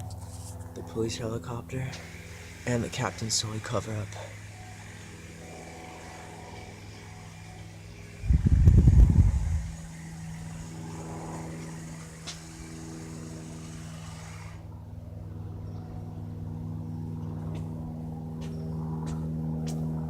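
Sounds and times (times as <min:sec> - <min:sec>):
propeller aircraft droning: 0:00.0 - 0:20.0.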